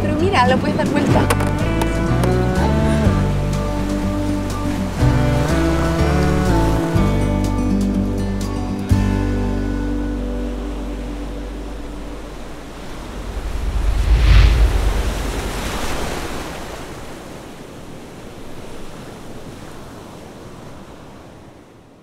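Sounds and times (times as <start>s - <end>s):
ocean surf washing on shore: 0.0s - 8.1s, 9.6s - 22.0s.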